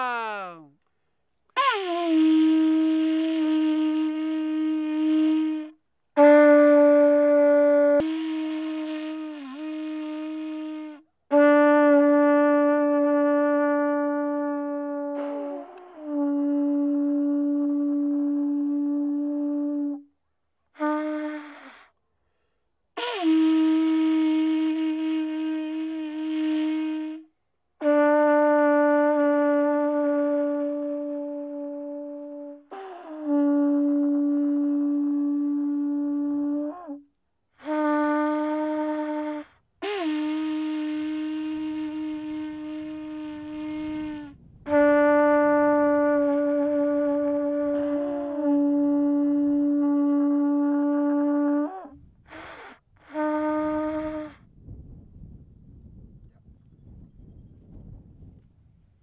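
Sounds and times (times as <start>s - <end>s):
horn trumpet blasts: 1.6s - 20.0s, 23.0s - 37.0s, 37.6s - 54.4s.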